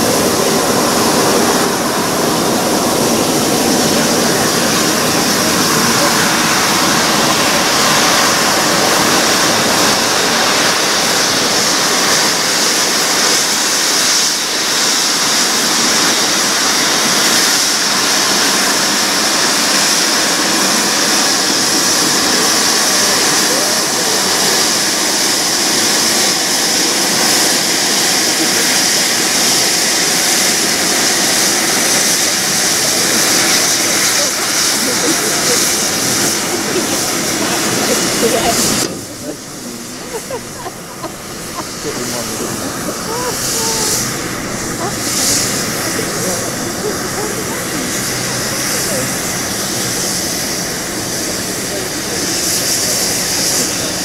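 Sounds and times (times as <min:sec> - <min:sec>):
steam hissing from locomotive: 0:00.0 - 0:54.0.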